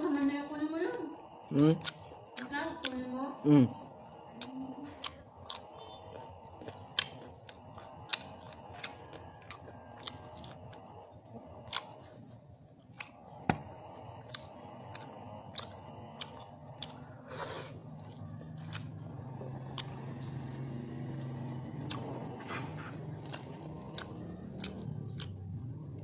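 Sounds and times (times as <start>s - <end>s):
person chewing with mouth clicks: 1.3s - 26.0s.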